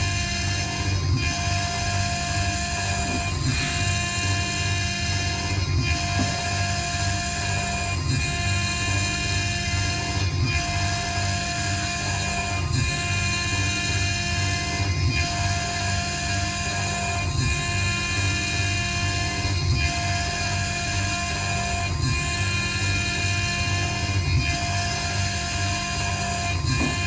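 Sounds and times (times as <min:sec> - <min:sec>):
grinding spindle high whine: 0:00.0 - 0:27.0.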